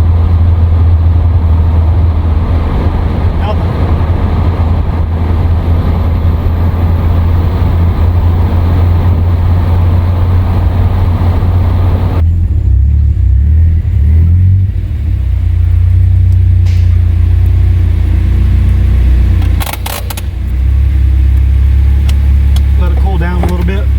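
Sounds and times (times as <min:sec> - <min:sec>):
low engine drone: 0:00.0 - 0:23.9
road and wind hiss: 0:00.0 - 0:23.9.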